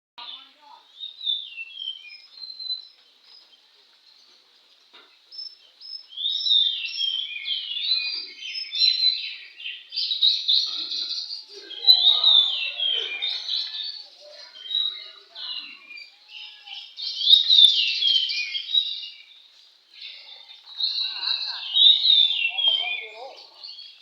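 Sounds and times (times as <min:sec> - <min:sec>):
bird singing whistles and chirps: 0:01.0 - 0:03.5, 0:05.4 - 0:24.0.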